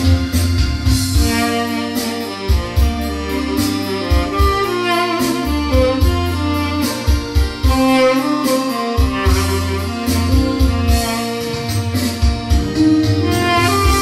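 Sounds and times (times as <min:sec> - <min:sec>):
backing track with bass and beat: 0:00.0 - 0:14.0
tenor saxophone melody: 0:00.0 - 0:14.0.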